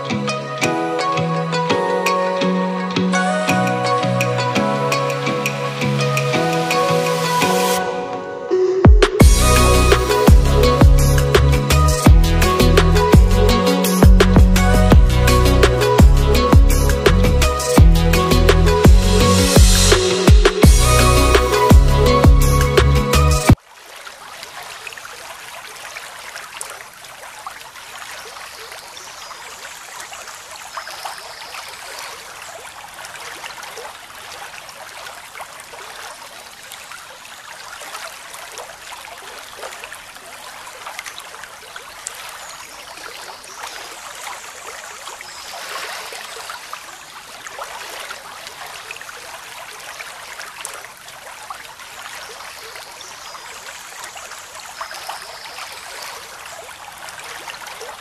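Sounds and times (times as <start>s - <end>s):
water flowing and splashing: 0.0s - 58.0s.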